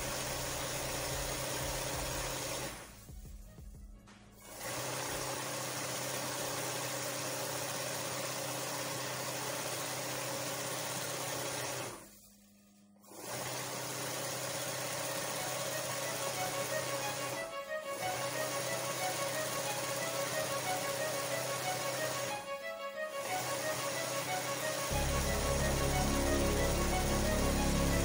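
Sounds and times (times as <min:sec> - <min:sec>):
sewing machine running: 0:00.0 - 0:03.0, 0:04.4 - 0:28.0.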